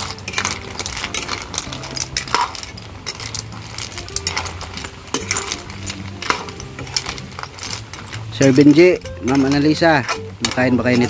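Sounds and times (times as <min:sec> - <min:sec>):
objects clinking in cooking pot: 0:00.0 - 0:11.0
soft background music: 0:00.0 - 0:11.0.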